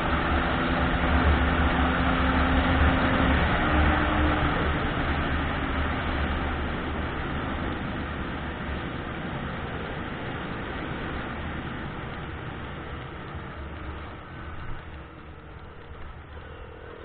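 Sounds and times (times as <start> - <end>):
rain rushing: 0.0 - 17.0
vehicle rumble: 0.0 - 17.0
wet road noise: 0.0 - 17.0.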